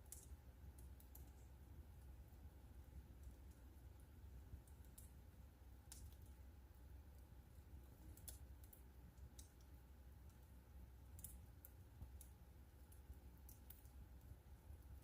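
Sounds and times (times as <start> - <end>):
low steady rumble: 0.0 - 15.0
wood fire snaps and pops: 0.0 - 15.0.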